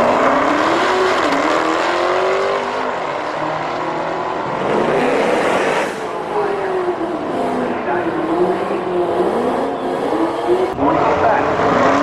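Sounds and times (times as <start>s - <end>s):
engines revving at full throttle: 0.0s - 12.0s.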